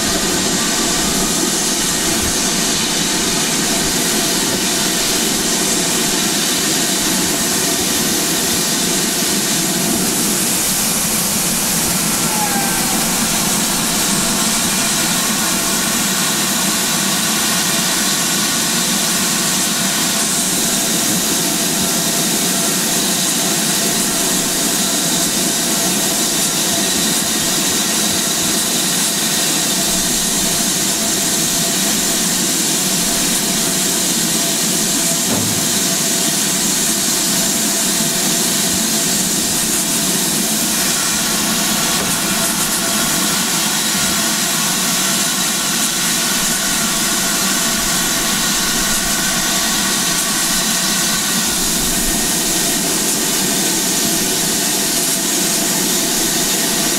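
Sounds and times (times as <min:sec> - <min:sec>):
steam hissing: 0:00.0 - 0:56.9.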